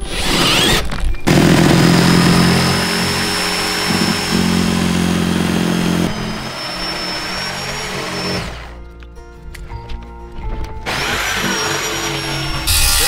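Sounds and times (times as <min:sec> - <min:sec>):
jigsaw cutting plywood: 0:00.0 - 0:08.7, 0:10.9 - 0:13.0.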